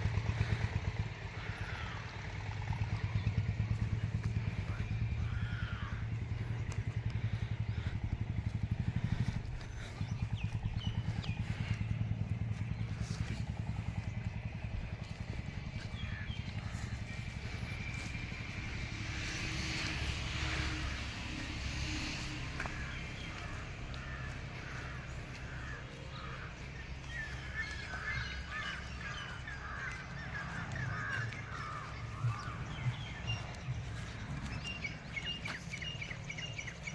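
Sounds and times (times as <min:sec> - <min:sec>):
birds chirping: 0:00.0 - 0:36.9
steady low rumble: 0:00.0 - 0:36.9.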